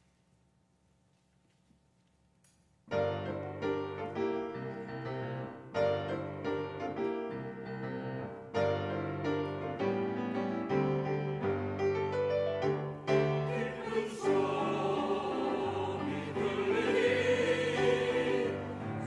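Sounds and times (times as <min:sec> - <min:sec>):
grand piano playing full chords: 0:02.9 - 0:19.0.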